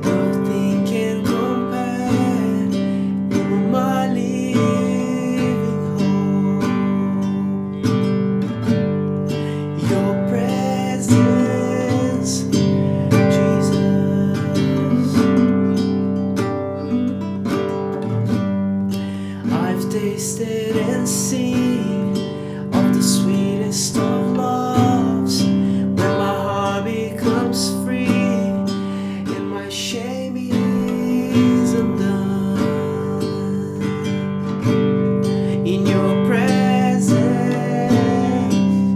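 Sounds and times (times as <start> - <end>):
man singing: 0.0 - 8.4, 9.3 - 16.1, 18.9 - 38.9
strummed nylon-string guitar: 0.0 - 38.9.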